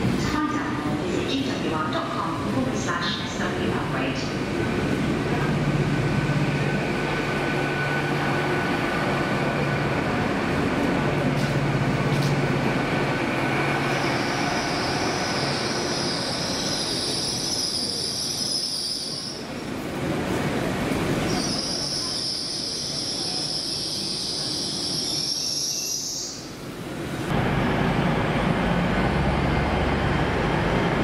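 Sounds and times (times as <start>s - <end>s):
train engine droning: 0.0s - 31.0s.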